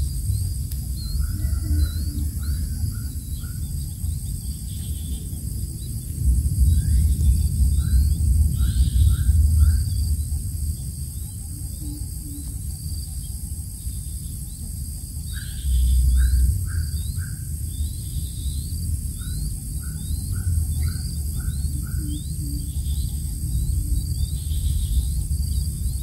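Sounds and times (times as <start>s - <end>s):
high rising bird chirps: 0.0s - 26.0s
low rumble: 0.0s - 26.0s.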